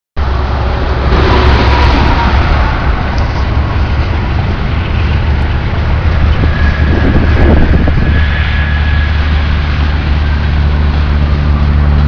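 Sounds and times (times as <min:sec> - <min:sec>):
road traffic roar: 0:00.2 - 0:12.0.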